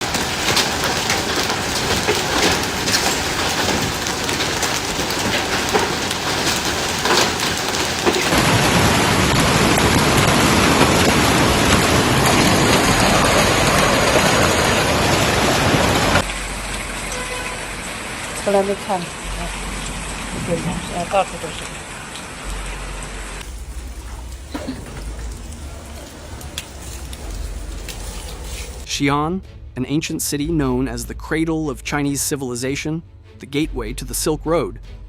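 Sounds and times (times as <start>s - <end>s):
hail pelting hard surfaces: 0.0s - 22.8s, 23.4s - 28.9s.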